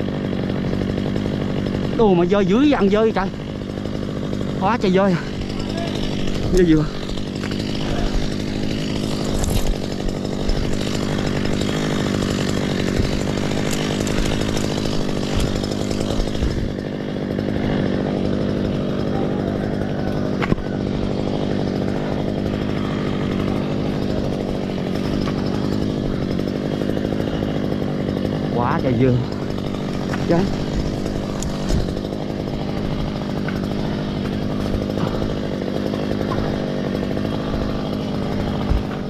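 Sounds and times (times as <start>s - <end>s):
chainsaw engine running: 0.0s - 39.0s.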